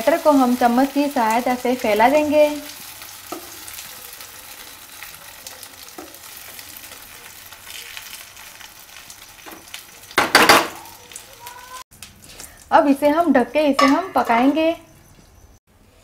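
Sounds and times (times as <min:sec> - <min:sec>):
batter sizzling in hot oil: 0:00.0 - 0:14.3.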